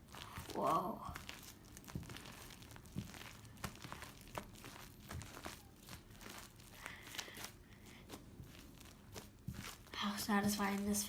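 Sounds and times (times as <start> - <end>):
slime squishing with soft pops: 0.0 - 11.0.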